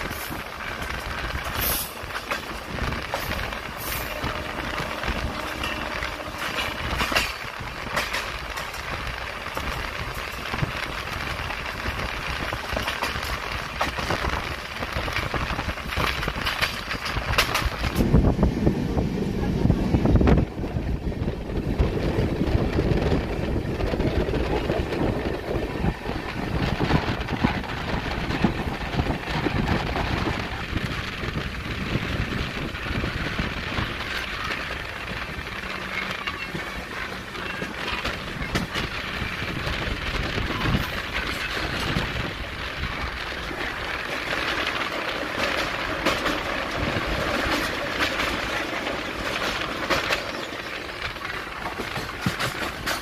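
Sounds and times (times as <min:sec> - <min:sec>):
wind rush: 0:00.0 - 0:50.2
train wheels rumbling on rails: 0:00.0 - 0:53.0.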